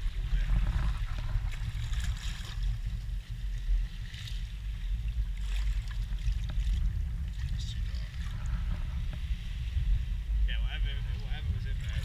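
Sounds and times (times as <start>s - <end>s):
wading splashes: 0.0s - 9.8s
seawater sloshing around rocks: 0.0s - 10.2s
steady low rumble: 0.0s - 12.0s.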